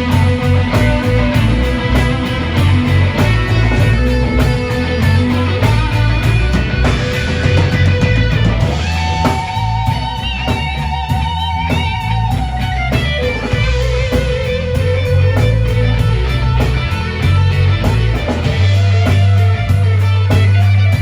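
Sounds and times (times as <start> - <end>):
electric guitar sustained notes: 0.0 - 21.0
live rock band: 0.0 - 21.0.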